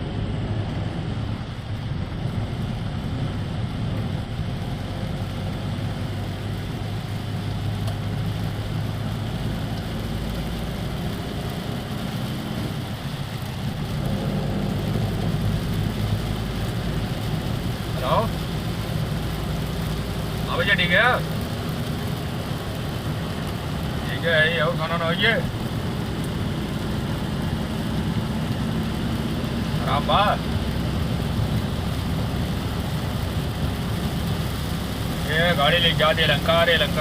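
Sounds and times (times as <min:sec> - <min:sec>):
rain and wet tyres hiss: 0:00.0 - 0:37.0
vehicle engine and road hum: 0:00.0 - 0:37.0.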